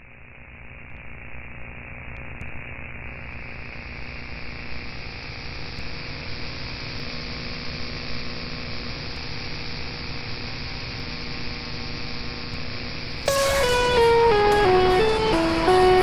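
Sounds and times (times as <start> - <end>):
static-like hiss: 0.1 - 16.0.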